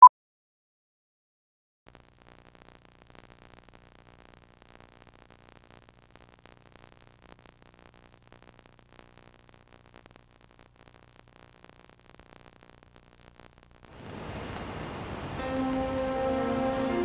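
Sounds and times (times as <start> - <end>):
faint hiss: 2.0 - 17.0.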